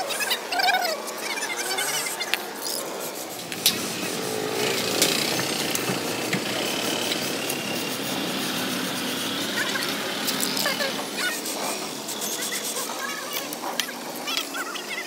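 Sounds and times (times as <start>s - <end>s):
spray can hissing: 1.8s - 14.2s.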